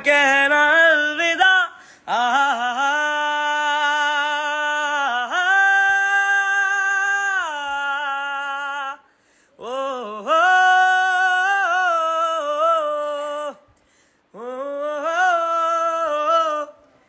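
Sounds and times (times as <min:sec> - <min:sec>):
man singing unaccompanied: 0:00.0 - 0:13.7, 0:14.3 - 0:17.0.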